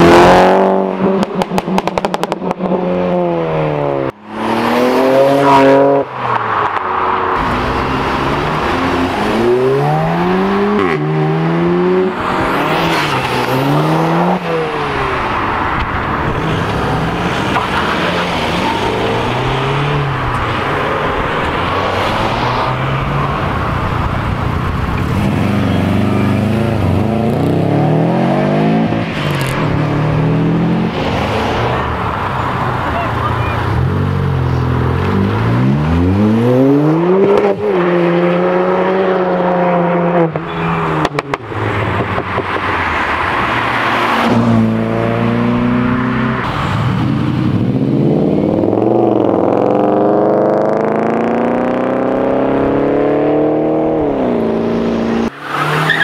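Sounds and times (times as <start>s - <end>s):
cars accelerating hard: 0.0s - 56.0s.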